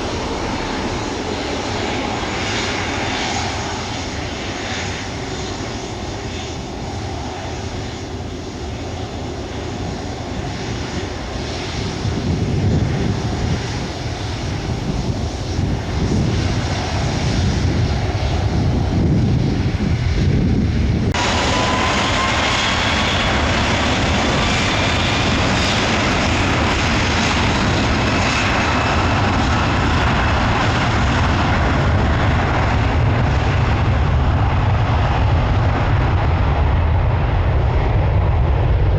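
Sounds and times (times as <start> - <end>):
jet engines rumbling: 0.0 - 38.9
rising engine whine: 0.0 - 38.9.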